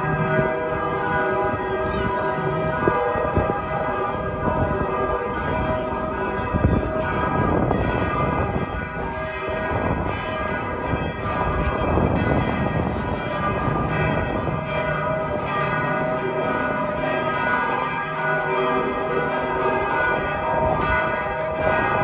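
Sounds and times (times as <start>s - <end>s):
church bells ringing in peal: 0.0s - 22.0s.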